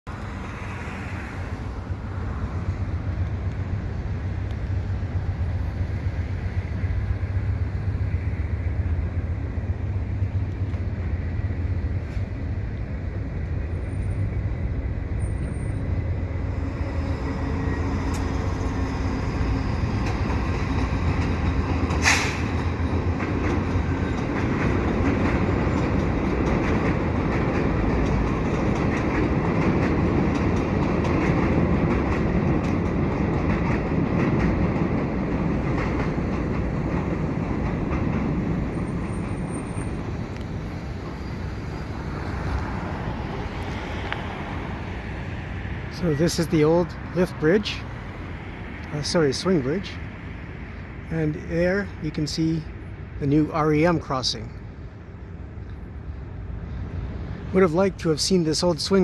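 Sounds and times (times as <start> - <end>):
diesel locomotive engine rumble: 0.1 - 59.0
train wheels on rails: 0.1 - 59.0.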